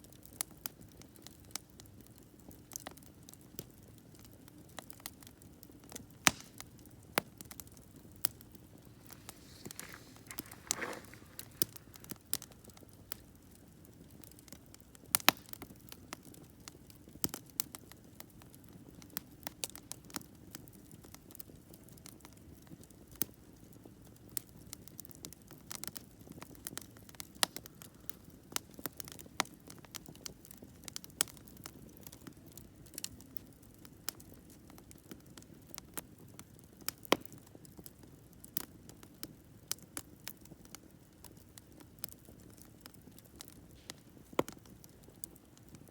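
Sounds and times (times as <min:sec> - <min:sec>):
soft steady hiss: 0:00.0 - 0:34.7, 0:40.5 - 0:45.9
campfire crackling and popping: 0:00.0 - 0:45.9.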